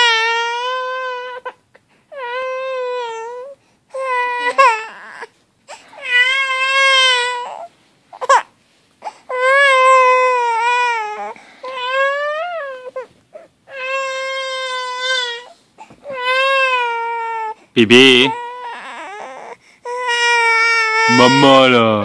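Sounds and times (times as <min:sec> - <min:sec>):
infant crying: 0:00.0 - 0:22.0
infant squealing: 0:02.2 - 0:05.3, 0:05.9 - 0:21.8.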